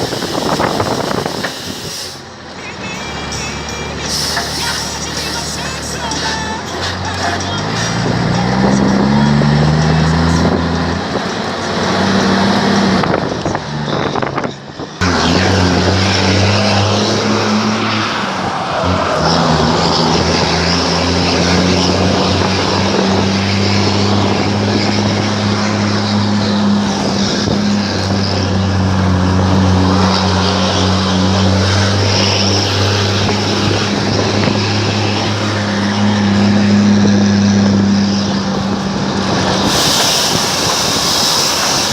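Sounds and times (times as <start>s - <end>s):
loud truck engine droning: 0.0s - 41.9s.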